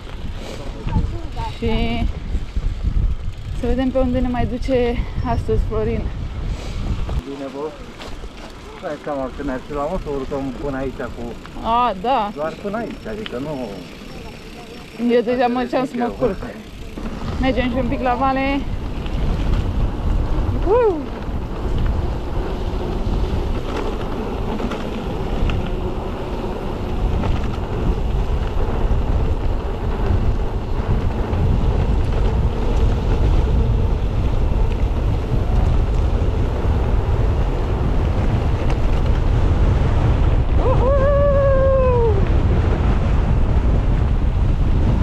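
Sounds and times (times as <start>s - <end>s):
wind rushing over microphone: 0.0s - 13.7s, 14.9s - 45.0s.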